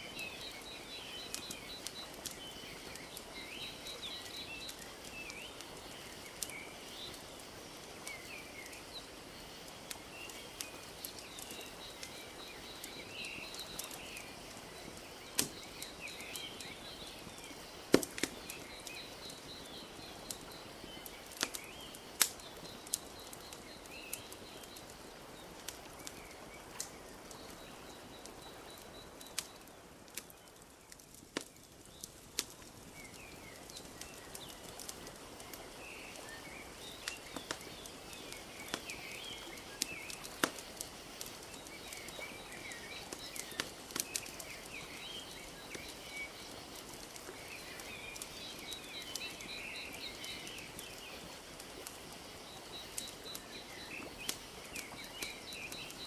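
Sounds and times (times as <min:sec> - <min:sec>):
small birds chirping: 0:00.0 - 0:56.0
wood fire crackling and popping: 0:00.0 - 0:56.0.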